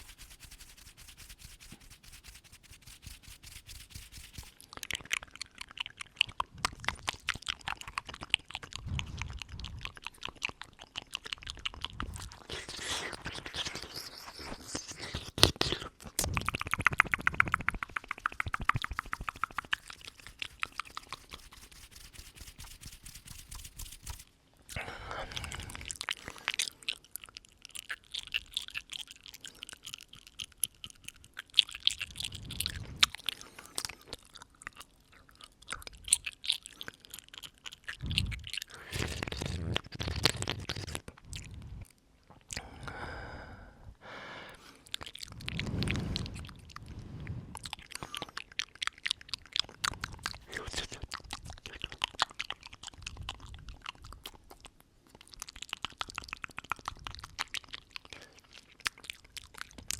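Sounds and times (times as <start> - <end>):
wet mouth clicks and smacks: 0.0 - 43.0, 44.6 - 59.9.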